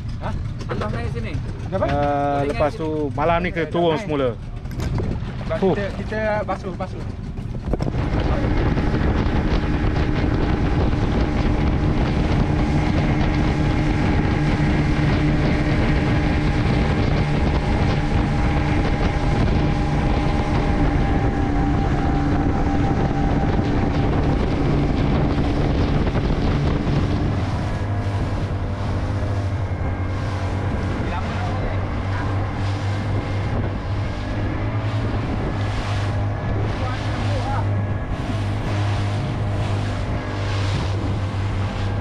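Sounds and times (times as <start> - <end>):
boat engine running: 0.0 - 42.0
wind buffeting microphone: 0.0 - 42.0.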